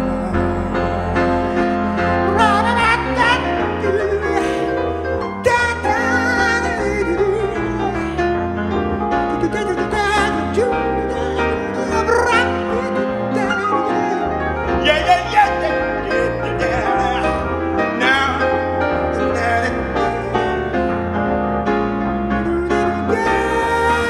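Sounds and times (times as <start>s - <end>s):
piano and electronic keyboards: 0.0s - 24.0s.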